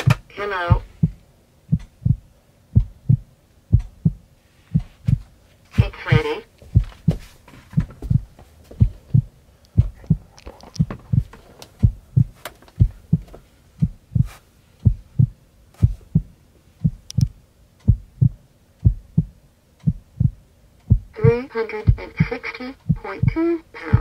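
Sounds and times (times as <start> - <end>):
heartbeat: 0.0 - 24.0.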